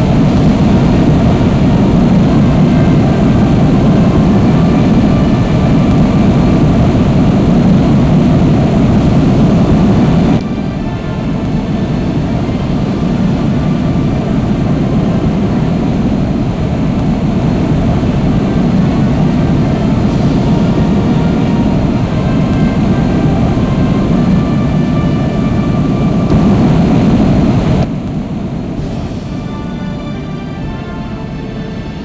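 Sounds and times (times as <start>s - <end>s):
jet engine rumble: 0.0s - 32.0s.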